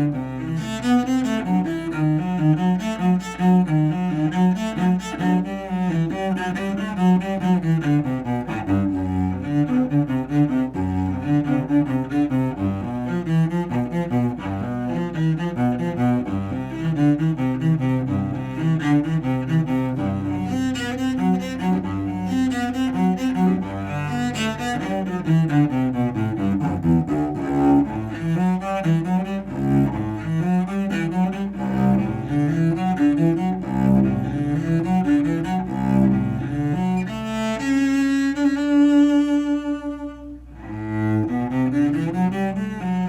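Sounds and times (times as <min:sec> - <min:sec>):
bowed cello melody: 0:00.0 - 0:43.0.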